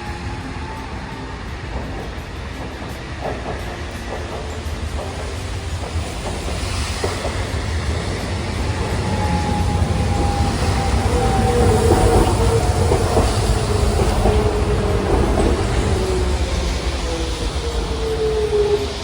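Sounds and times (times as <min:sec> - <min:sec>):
streetcar rumble: 0:00.0 - 0:19.0.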